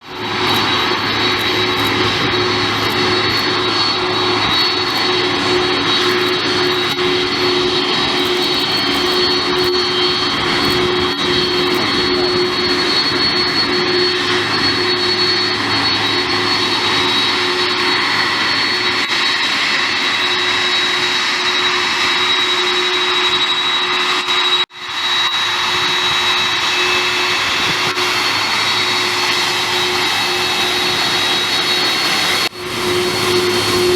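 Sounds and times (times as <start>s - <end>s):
jet engines running: 0.0s - 33.9s.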